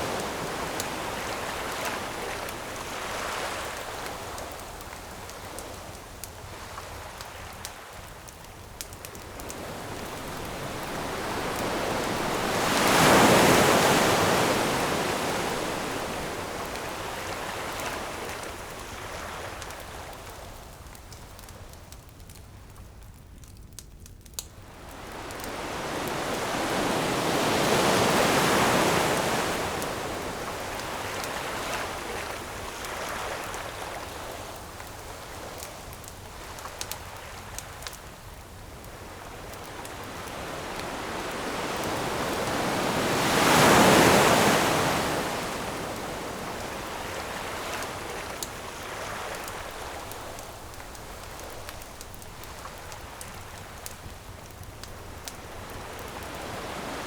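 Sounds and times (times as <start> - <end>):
ocean waves washing ashore: 0.0 - 20.7, 24.6 - 57.0
campfire crackles: 0.0 - 57.0.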